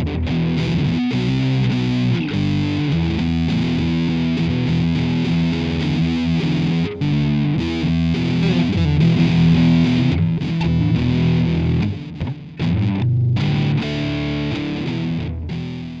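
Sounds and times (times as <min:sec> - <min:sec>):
distorted electric guitar music: 0:00.0 - 0:16.0.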